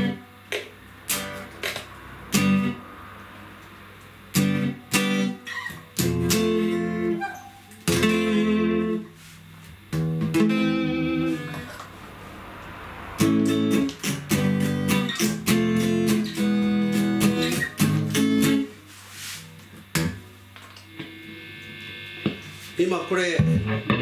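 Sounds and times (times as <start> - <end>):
electric guitar chords strummed: 0.0 - 18.9, 19.5 - 24.0.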